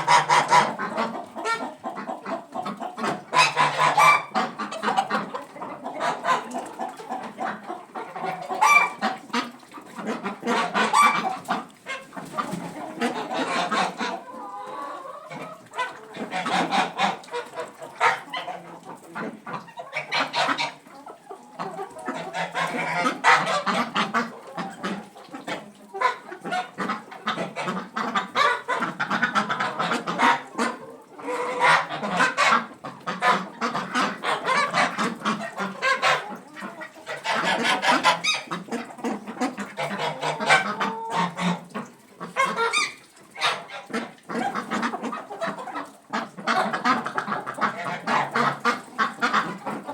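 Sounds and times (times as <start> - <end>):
poultry clucking and honking: 0.0 - 49.9.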